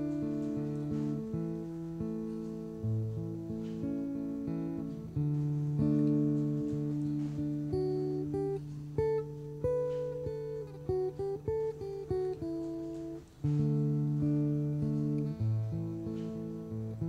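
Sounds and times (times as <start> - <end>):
single plucked notes: 0.0 - 17.0.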